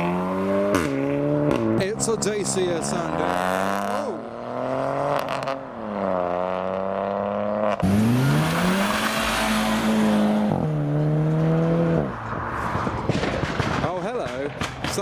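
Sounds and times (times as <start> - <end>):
car accelerating hard: 0.0 - 13.5
car engine driving away: 0.0 - 13.8.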